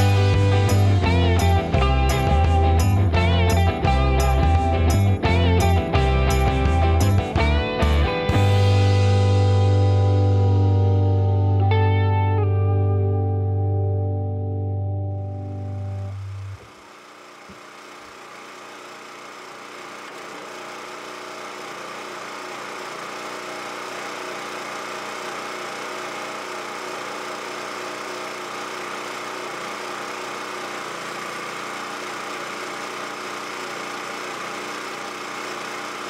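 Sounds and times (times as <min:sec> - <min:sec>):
generator engine humming: 0:00.0 - 0:12.2, 0:14.9 - 0:36.0.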